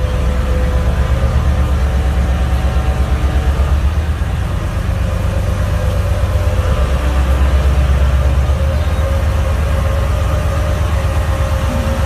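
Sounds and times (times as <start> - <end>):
deep diesel engine rumble: 0.0 - 12.0.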